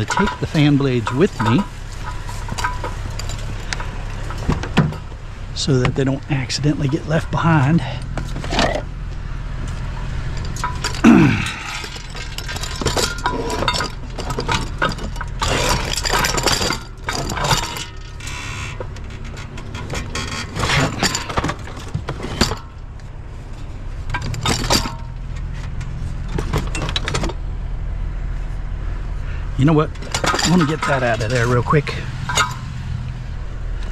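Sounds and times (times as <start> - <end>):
scrap metal parts clanking: 0.0 - 27.5, 29.6 - 33.9
steady low hum: 0.0 - 33.9.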